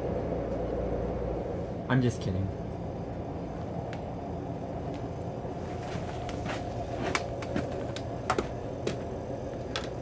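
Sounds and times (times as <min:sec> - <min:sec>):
faint whine: 0:00.0 - 0:10.0
train interior rumble: 0:00.0 - 0:10.0.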